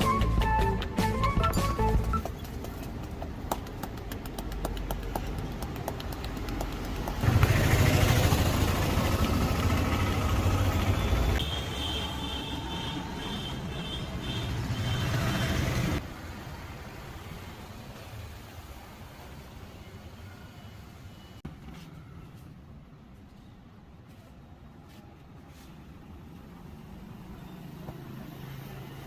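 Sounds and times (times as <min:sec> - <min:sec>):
street traffic noise: 0:00.0 - 0:29.0.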